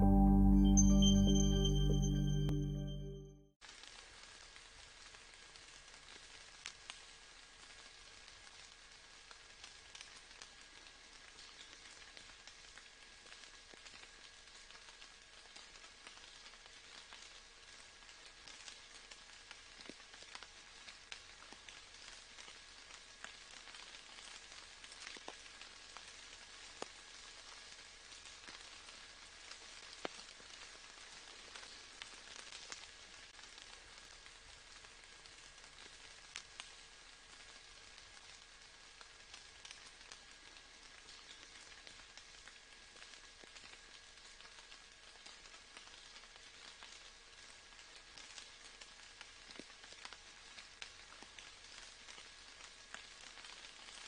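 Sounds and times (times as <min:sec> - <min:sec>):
faint steady rain: 0:00.0 - 0:54.0.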